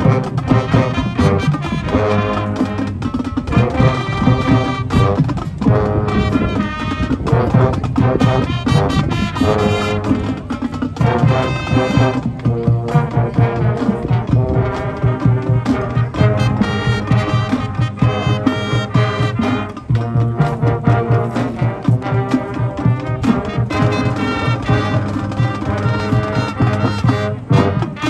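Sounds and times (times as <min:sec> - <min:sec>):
brass chords: 0:00.0 - 0:28.0
percussion: 0:00.0 - 0:28.0.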